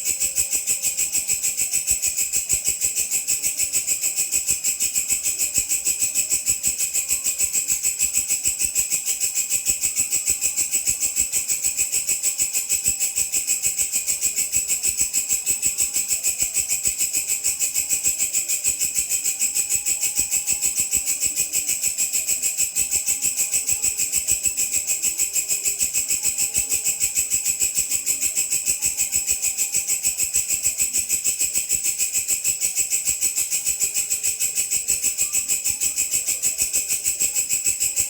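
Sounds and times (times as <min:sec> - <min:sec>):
grasshopper stridulating: 0:00.0 - 0:38.0.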